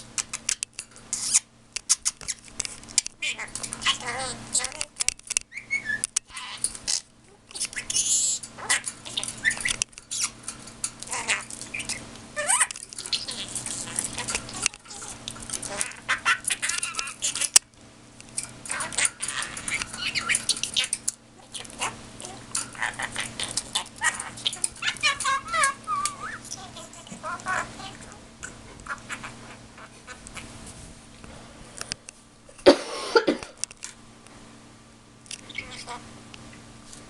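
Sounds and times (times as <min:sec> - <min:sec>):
bird chirping and warbling: 0:00.1 - 0:17.6, 0:18.3 - 0:30.5, 0:35.3 - 0:36.6.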